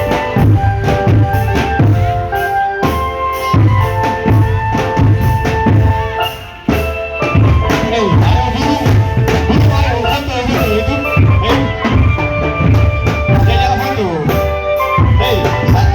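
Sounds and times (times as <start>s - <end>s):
marching drum band: 0.0s - 15.9s.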